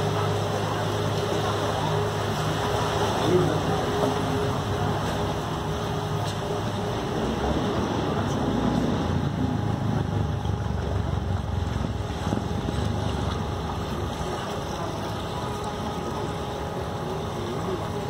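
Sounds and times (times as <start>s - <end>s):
boat engine rumble: 0.0s - 18.0s
water wash: 0.0s - 18.0s.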